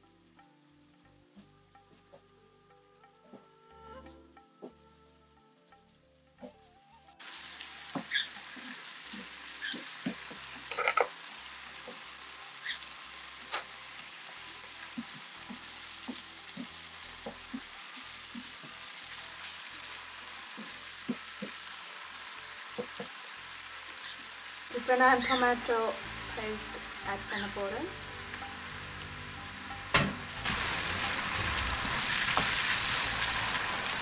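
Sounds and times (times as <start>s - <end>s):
onions sizzling in hot oil: 5.0s - 34.0s.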